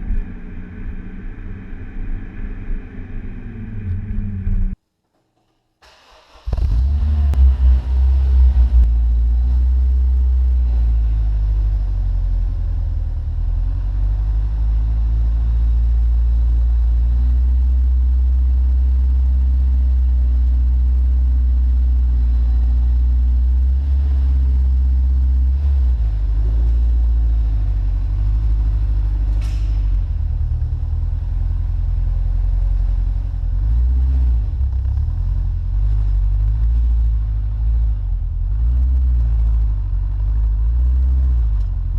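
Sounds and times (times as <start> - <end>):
car engine droning: 0.0 - 4.8, 5.9 - 41.9.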